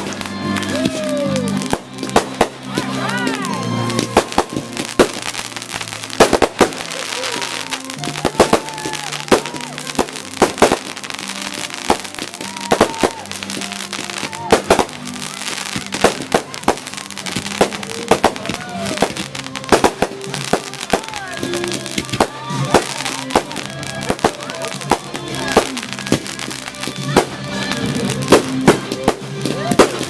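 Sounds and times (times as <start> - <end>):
background music: 0.0 - 30.0
fireworks bangs: 0.0 - 30.0.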